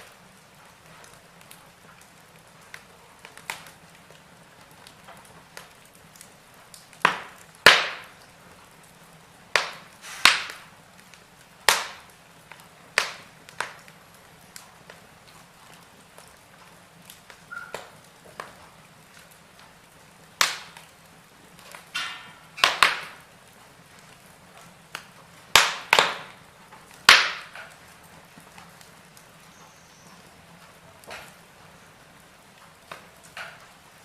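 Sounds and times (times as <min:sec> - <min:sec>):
faint steady hiss: 0:00.0 - 0:34.0
wood fire crackling and popping: 0:00.0 - 0:34.0.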